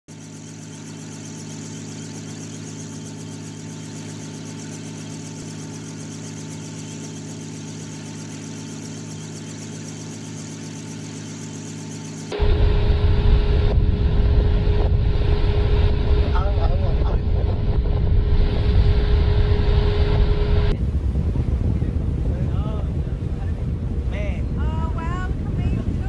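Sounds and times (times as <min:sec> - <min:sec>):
aircraft engine drone: 0:00.1 - 0:26.0.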